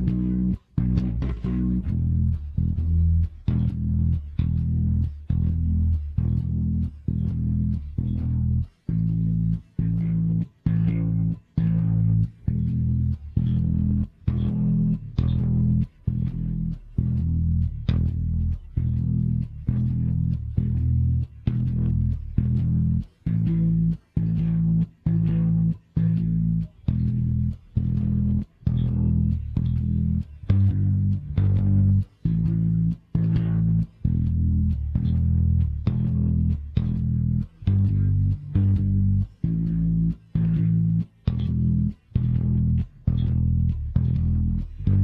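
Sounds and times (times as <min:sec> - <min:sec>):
electric bass guitar low notes: 0:00.0 - 0:45.0.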